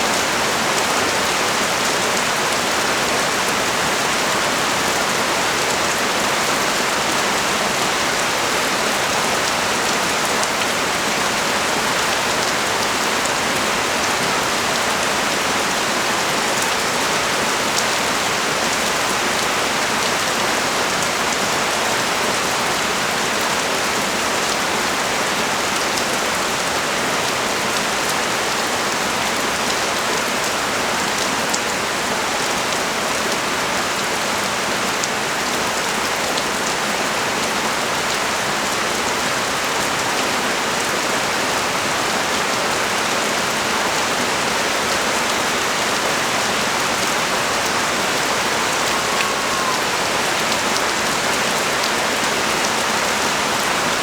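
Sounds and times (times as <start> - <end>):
heavy rain on street: 0.0 - 54.0.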